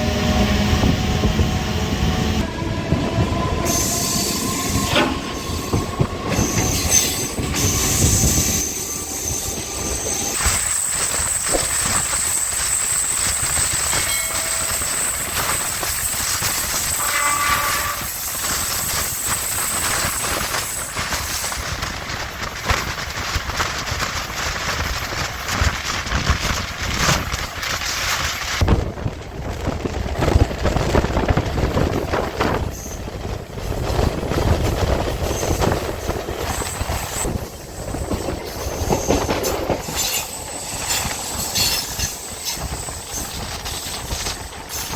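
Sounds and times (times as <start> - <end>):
train wheels clattering over rail joints: 2.9 - 44.9.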